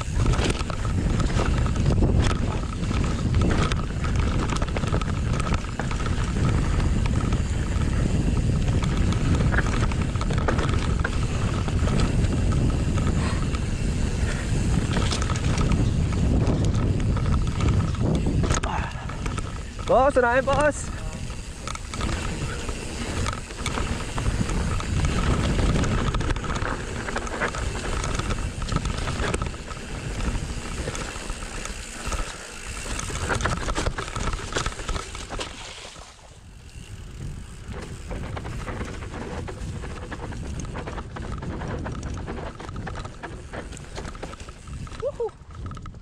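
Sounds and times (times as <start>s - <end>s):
wind buffeting microphone: 0.0s - 35.5s, 36.4s - 46.0s
bike clattering over bumps: 0.0s - 46.0s
bike tyre noise on dirt: 0.0s - 46.0s.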